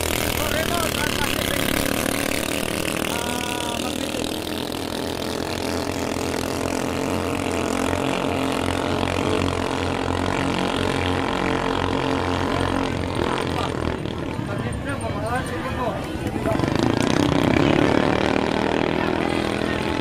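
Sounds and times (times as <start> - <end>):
boat engines at full throttle: 0.0 - 20.0.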